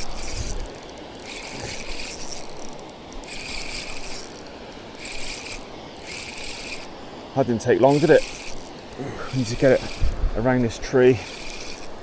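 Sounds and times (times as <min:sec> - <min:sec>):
fishing reel drag ratcheting: 0:00.0 - 0:06.9, 0:07.8 - 0:12.0.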